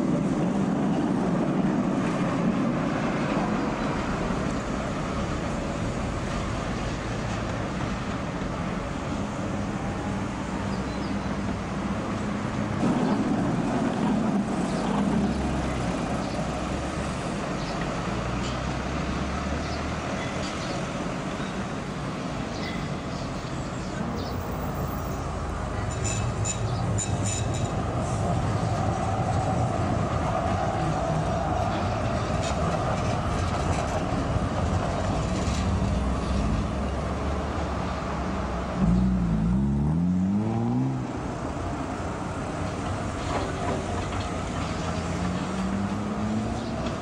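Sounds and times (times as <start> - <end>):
road traffic: 0.0 - 47.0
tram wheels rumbling on rails: 0.0 - 47.0.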